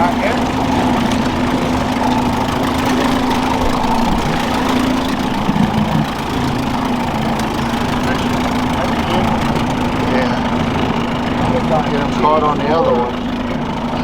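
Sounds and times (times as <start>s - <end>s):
outboard boat motor running: 0.0s - 14.0s.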